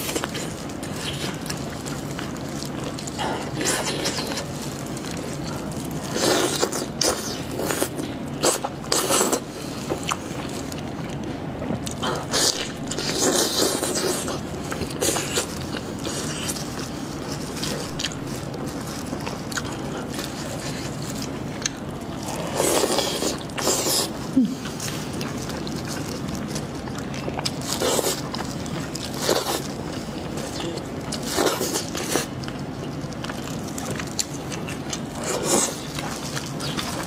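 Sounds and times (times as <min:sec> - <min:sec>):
biting and chewing: 0:00.0 - 0:37.0.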